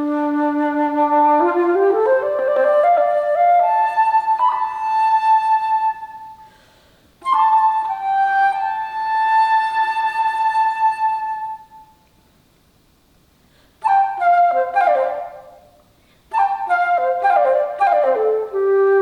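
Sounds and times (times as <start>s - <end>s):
alto flute long notes: 0.0s - 6.5s, 7.2s - 12.0s, 13.8s - 15.6s, 16.3s - 19.0s.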